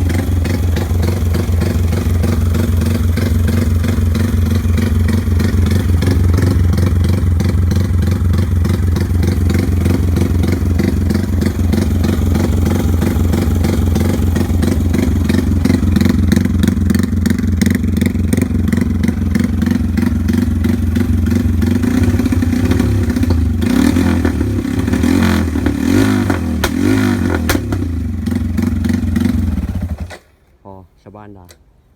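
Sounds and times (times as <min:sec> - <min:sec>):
motorcycle engine running: 0:00.0 - 0:30.1.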